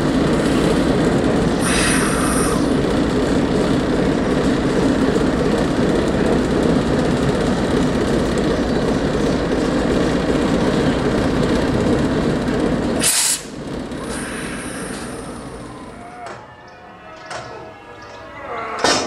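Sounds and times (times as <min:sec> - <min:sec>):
locomotive rumble and hiss: 0:00.0 - 0:16.5.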